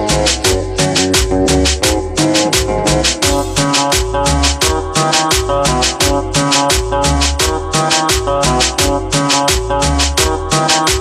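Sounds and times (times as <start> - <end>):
dance music: 0.0 - 11.0.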